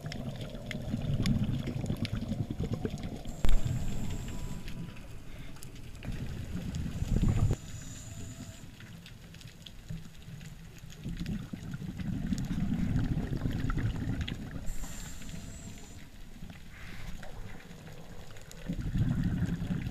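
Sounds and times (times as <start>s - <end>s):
muffled underwater rushing water: 0.0s - 19.9s.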